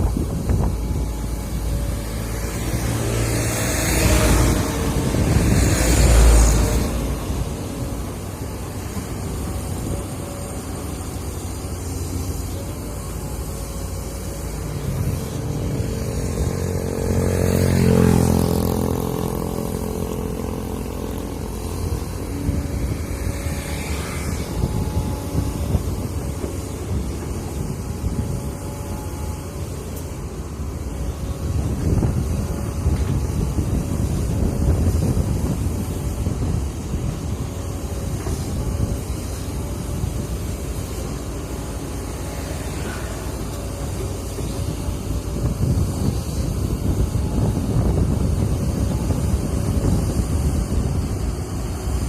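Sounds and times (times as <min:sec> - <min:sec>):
heavy machinery engine rumbling: 0:00.0 - 0:52.0.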